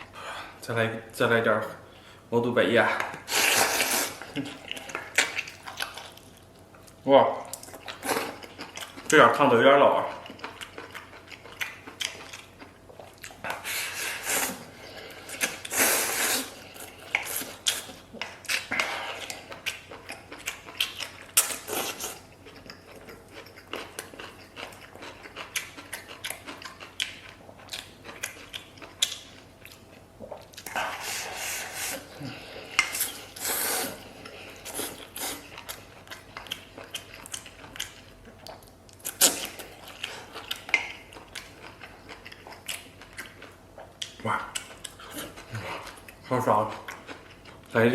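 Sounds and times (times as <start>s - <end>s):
crunchy chewing: 3.3s - 47.9s.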